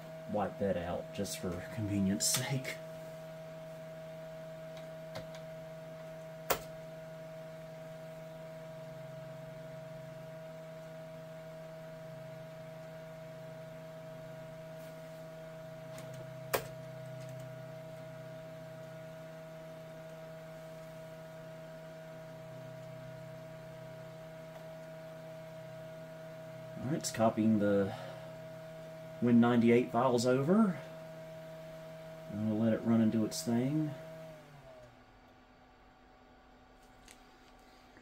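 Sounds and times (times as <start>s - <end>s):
desktop computer humming: 0.0s - 38.0s
thin constant whine: 0.0s - 38.0s.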